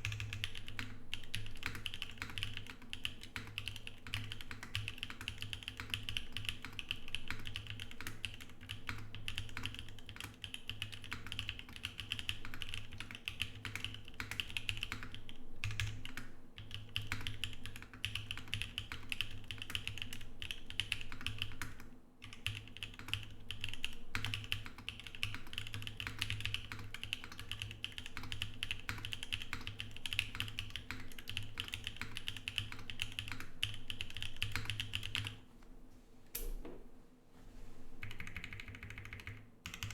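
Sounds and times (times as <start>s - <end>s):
typing on mechanical keyboard: 0.0s - 35.4s, 38.0s - 39.9s.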